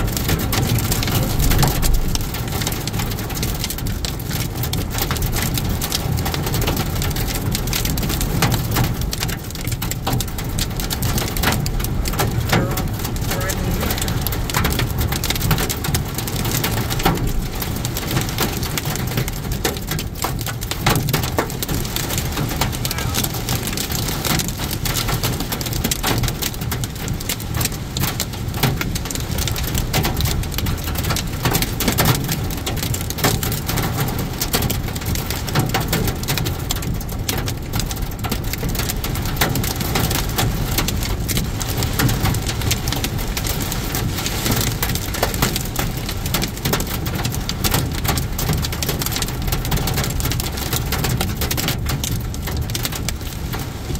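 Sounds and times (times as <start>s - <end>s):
car road noise: 0.0s - 53.9s
heavy rain on car roof: 0.0s - 53.9s.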